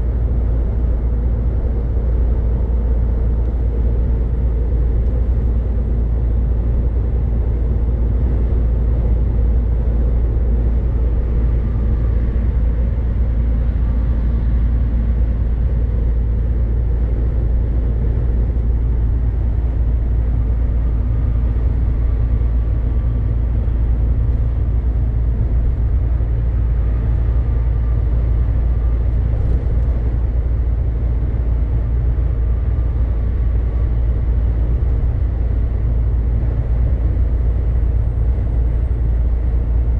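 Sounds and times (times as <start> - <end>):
truck engine and tyre rumble: 0.0 - 39.9.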